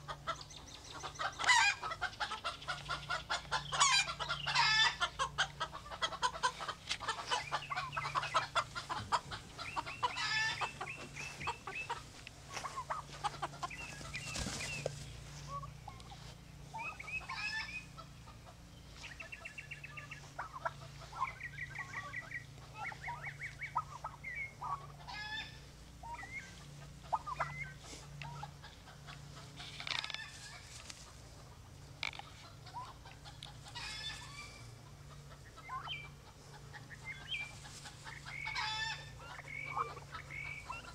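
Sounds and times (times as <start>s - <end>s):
chickens clucking: 0.0s - 40.9s
low hum: 0.0s - 40.9s.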